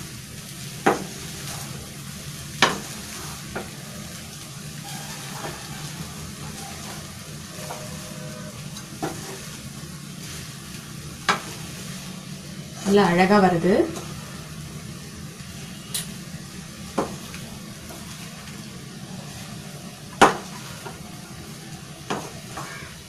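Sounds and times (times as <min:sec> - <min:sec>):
spatula stirring rice in a pan: 0:00.0 - 0:13.1, 0:13.9 - 0:23.0
steady sizzle: 0:00.0 - 0:23.0.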